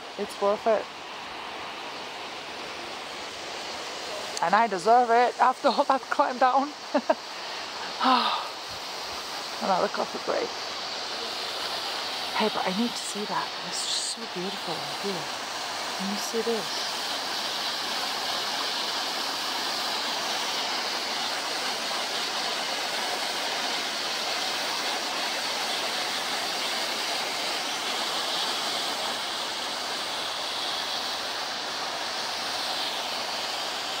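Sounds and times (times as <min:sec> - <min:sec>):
waterfall pouring onto rocks: 0:00.0 - 0:34.0.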